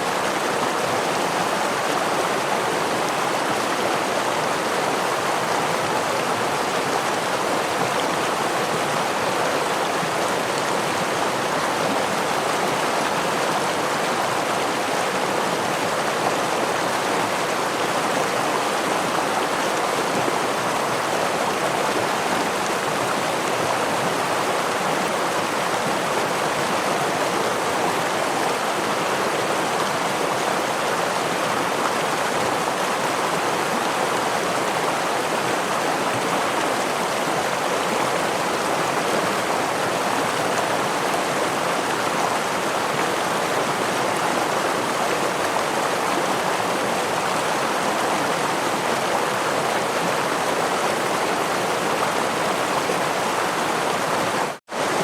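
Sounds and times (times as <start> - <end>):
small waterfall splashing: 0.0 - 55.0
stream water flowing: 0.0 - 55.0.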